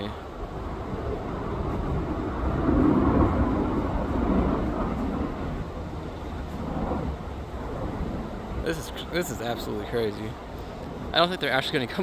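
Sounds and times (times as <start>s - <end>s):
vehicle passing rumble: 0.0s - 12.0s.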